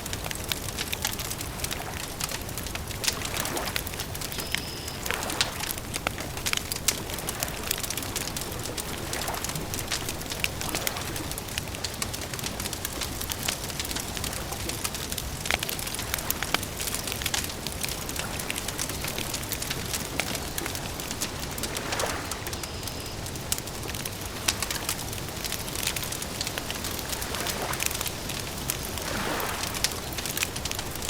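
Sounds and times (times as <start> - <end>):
campfire popping and snapping: 0.0 - 31.0
hiss of burning wood: 0.1 - 31.0.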